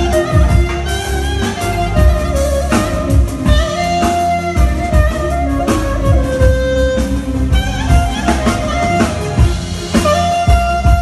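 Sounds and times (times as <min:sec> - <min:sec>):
electronic keyboard melody: 0:00.0 - 0:11.0
steady drum beat: 0:00.0 - 0:11.0.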